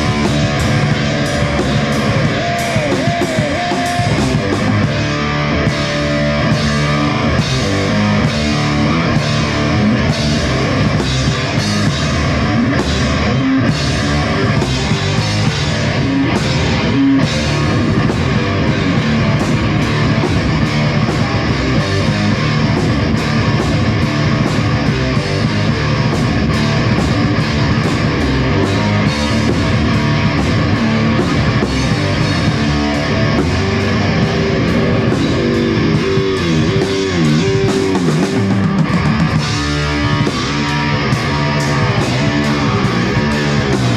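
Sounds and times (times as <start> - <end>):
regular drum beat: 0.0 - 43.9
rock band playing: 0.0 - 43.9.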